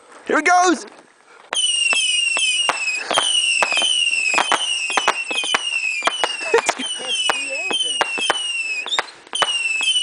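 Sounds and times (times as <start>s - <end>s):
firework pops: 0.9s - 10.0s
firework whistles: 1.5s - 10.0s.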